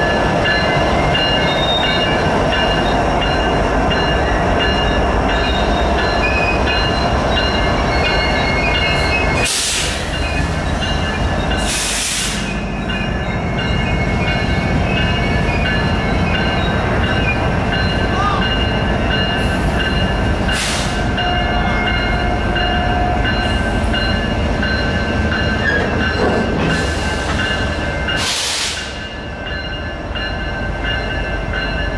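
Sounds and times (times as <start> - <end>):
freight train rumbling on rails: 0.0 - 31.9.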